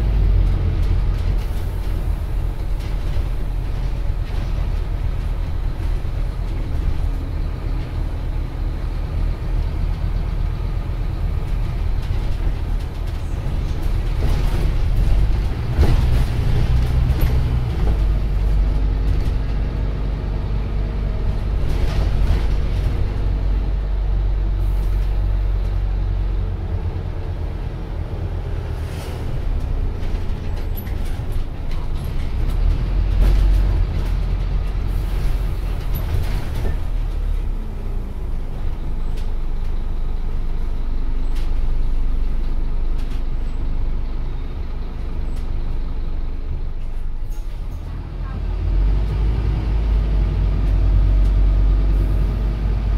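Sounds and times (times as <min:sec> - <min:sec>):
bus diesel engine running: 0:00.0 - 0:52.9
road rumble: 0:00.0 - 0:52.9.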